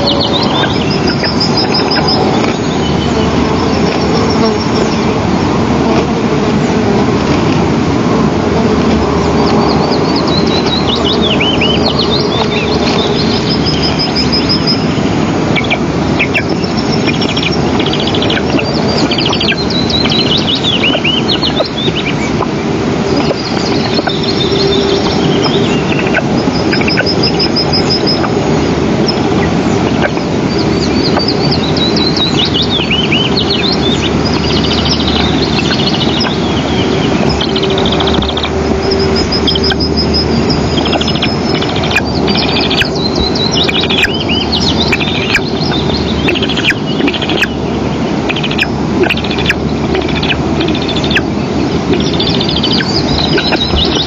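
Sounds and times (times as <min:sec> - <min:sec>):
birds chirping and trilling: 0:00.0 - 0:05.6, 0:09.0 - 0:54.0
faint hum: 0:00.0 - 0:54.0
steady rushing background noise: 0:00.0 - 0:54.0.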